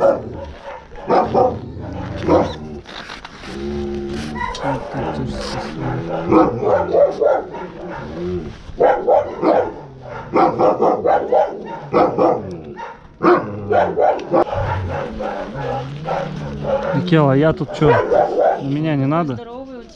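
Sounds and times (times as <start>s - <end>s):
dog barking: 0.0s - 2.6s, 4.3s - 18.9s.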